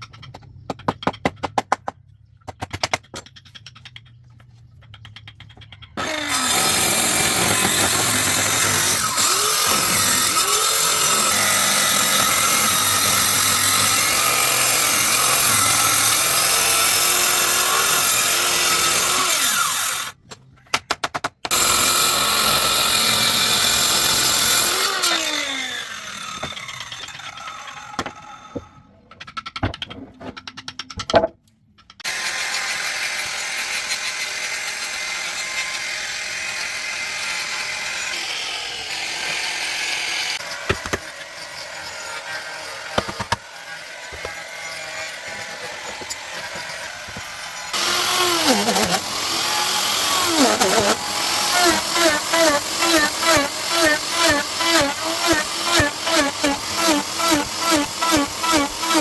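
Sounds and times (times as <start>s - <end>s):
electric power tool cutting wood: 6.0s - 20.2s, 21.5s - 28.7s, 32.0s - 59.0s.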